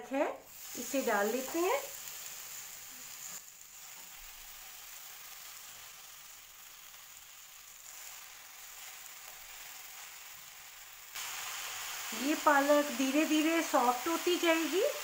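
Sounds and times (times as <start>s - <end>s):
spinach sizzling in a pan: 0.1s - 15.0s.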